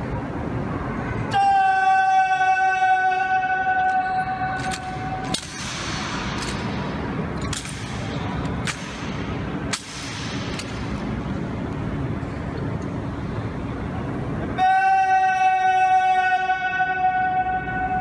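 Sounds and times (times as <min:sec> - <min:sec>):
background noise: 0:00.0 - 0:18.0.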